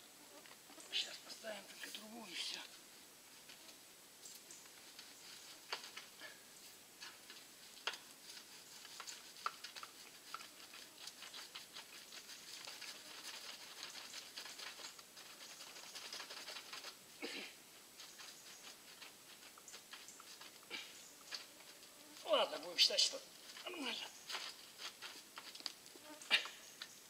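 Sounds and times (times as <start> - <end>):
scraping rustle: 0.4 - 27.0.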